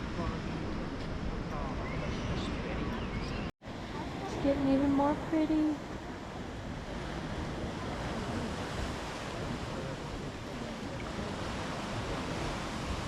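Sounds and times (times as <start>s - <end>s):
sea surf washing: 0.0s - 13.0s
wind: 0.0s - 13.0s.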